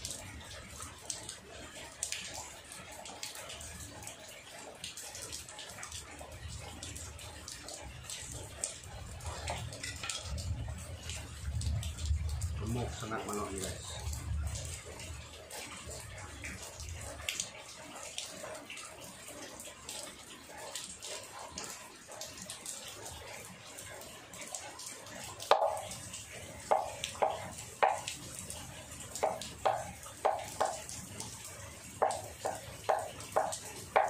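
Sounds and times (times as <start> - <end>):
water splashing in a basin: 0.0 - 34.0.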